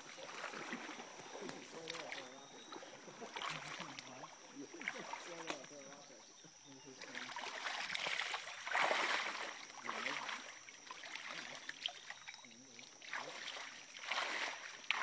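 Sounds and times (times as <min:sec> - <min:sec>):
person wading through splashing water: 0:00.0 - 0:06.0, 0:07.0 - 0:15.0.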